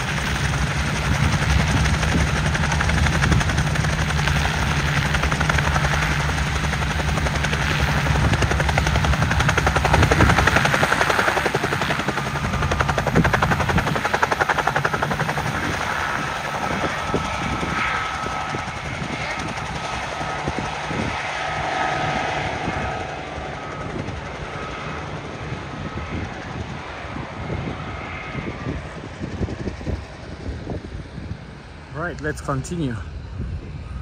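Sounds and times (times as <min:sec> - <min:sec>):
deep low drone: 0:00.0 - 0:34.0
helicopter rotor chopping: 0:00.0 - 0:34.0.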